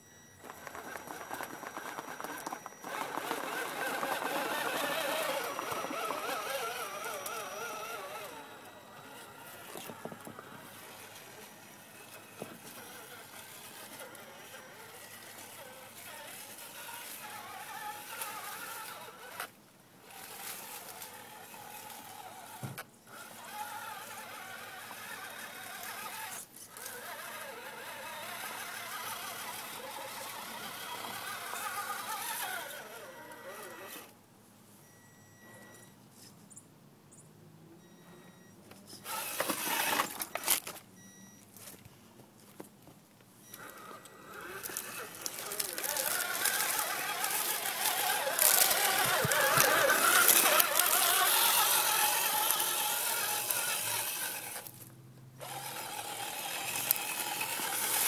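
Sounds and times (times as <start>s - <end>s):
electric motor and gearbox whining: 0.0s - 34.2s, 39.0s - 40.8s, 43.4s - 58.0s.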